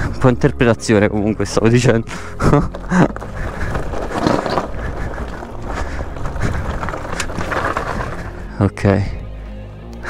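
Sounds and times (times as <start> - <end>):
tyres rumbling over loose stones: 0.0 - 9.2.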